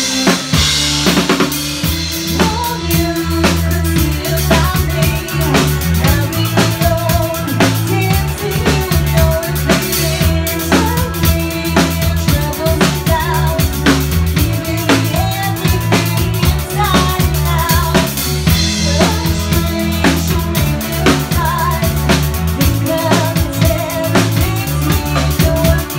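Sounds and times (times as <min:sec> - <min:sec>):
bass notes: 0:00.0 - 0:25.9
drum kit beat: 0:00.0 - 0:25.9
electric guitar: 0:00.0 - 0:25.9.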